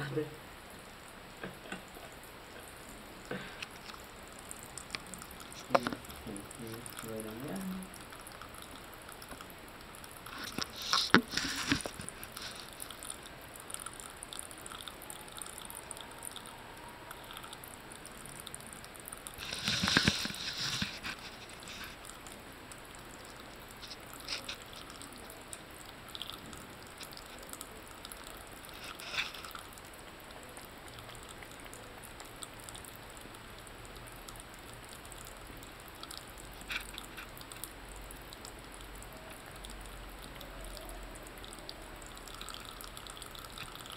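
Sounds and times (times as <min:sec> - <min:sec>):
water trickling into sink: 0:01.6 - 0:43.9.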